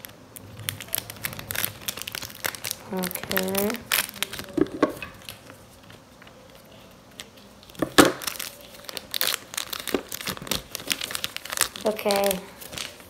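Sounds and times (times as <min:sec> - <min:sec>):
card-pack wrappers crinkling: 0:00.0 - 0:13.0.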